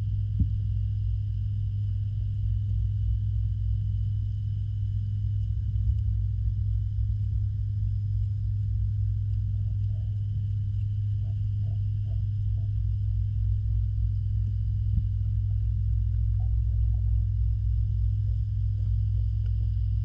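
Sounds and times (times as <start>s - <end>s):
underwater pump hum: 0.0s - 20.0s.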